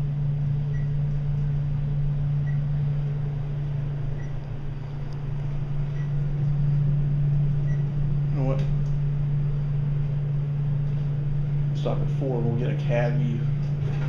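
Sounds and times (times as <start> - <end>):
elevator hum with rushing noise: 0.0 - 14.0.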